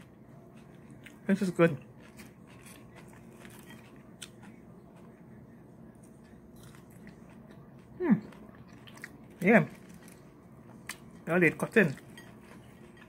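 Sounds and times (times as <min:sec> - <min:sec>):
person chewing: 0:00.0 - 0:11.2, 0:12.0 - 0:13.0.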